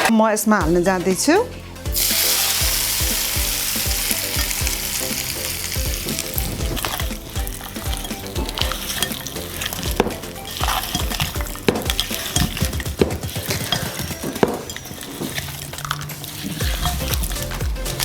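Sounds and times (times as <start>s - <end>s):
oil sizzling: 1.9s - 18.0s
spoon scraping metal pan: 2.0s - 18.0s.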